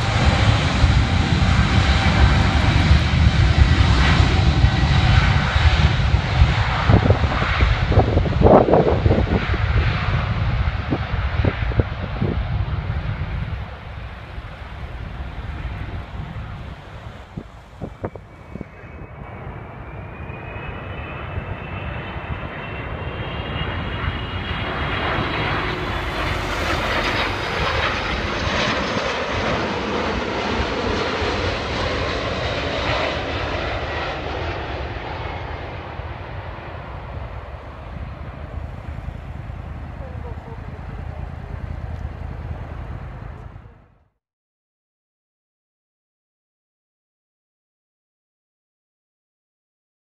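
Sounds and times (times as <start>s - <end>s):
jet engine rumble with high whine: 0.0s - 44.2s.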